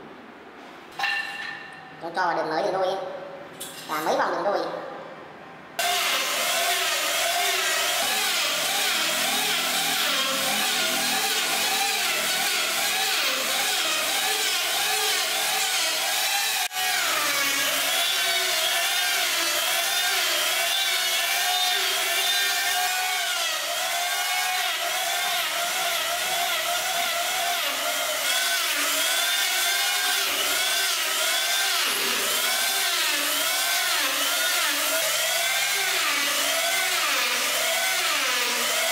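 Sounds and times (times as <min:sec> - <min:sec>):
electric power planer on wood: 0:05.8 - 0:38.9
electric sander: 0:05.8 - 0:38.9.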